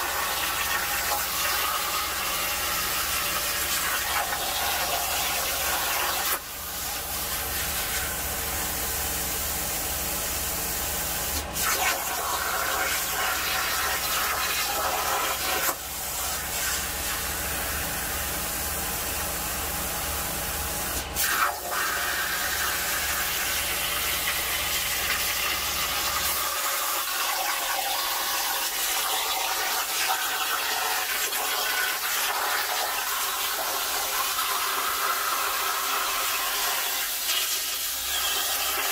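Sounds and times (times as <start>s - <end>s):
plasma cutter hissing: 0.1s - 18.3s, 20.6s - 38.9s.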